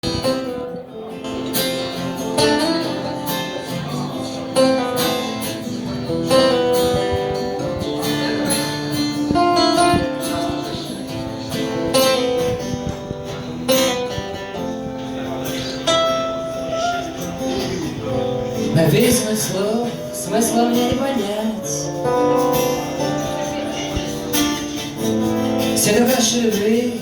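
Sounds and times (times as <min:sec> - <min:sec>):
acoustic guitar chords ringing: 0:00.0 - 0:27.0.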